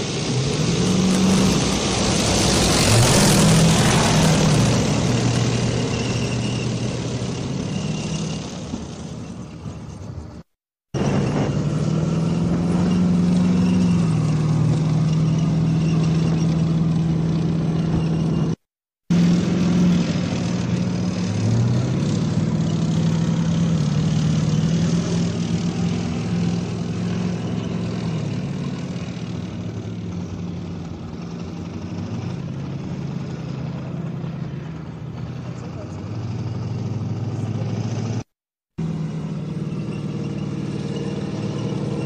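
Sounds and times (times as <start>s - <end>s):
tracked vehicle diesel engine: 0.0s - 42.0s.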